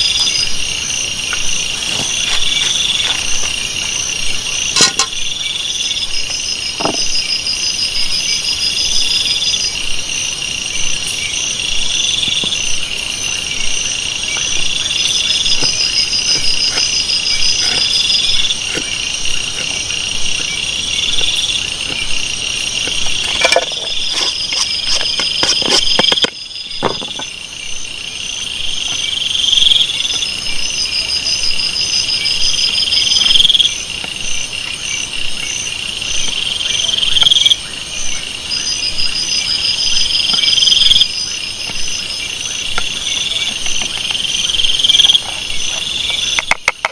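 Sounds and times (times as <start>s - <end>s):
fast high insect trills: 0.0s - 46.6s
loud insect call: 0.0s - 46.9s.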